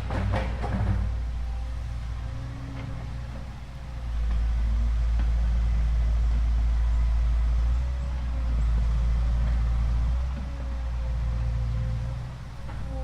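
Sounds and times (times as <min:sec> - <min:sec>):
excavator engine rumbling: 0:00.0 - 0:13.0.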